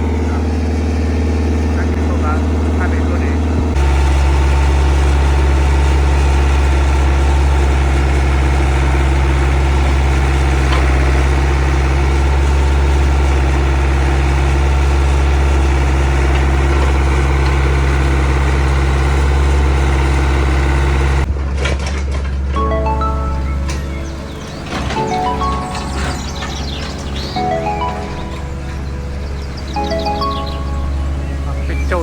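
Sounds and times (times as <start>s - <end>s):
diesel engine idling: 0.0s - 21.5s, 22.2s - 32.0s.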